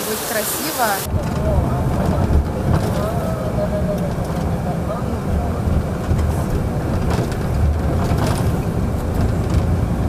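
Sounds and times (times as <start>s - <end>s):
bus engine rumble: 0.0s - 10.0s
road noise: 0.0s - 10.0s.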